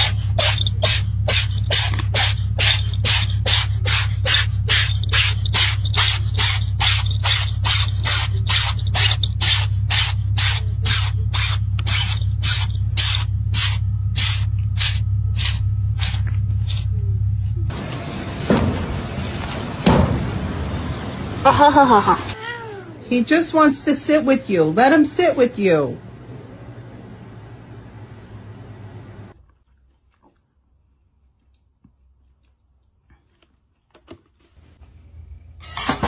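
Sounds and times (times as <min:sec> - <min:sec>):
steady low hum: 0:00.0 - 0:29.4.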